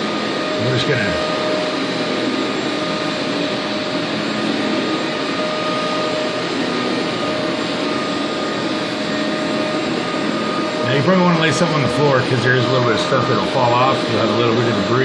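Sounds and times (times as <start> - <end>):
constant machine whine: 0.0 - 15.0.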